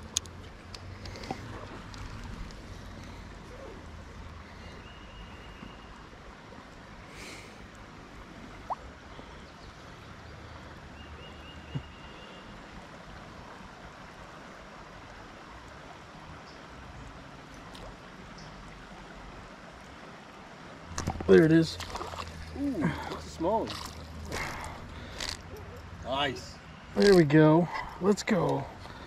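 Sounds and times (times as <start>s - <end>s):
creek water running: 0.0s - 29.0s.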